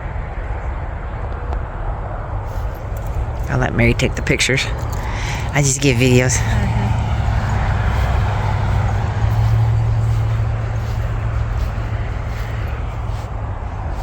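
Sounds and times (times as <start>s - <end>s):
motor engine humming: 2.5s - 14.0s.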